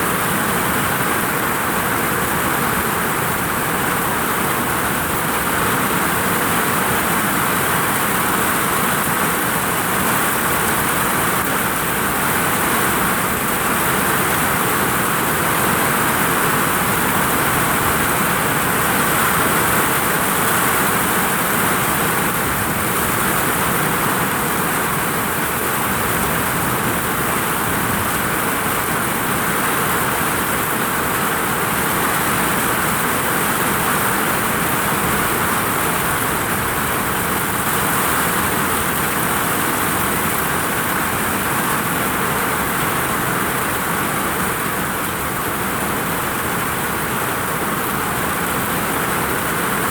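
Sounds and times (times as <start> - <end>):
heavy rain on a vinyl roof: 0.0 - 49.9.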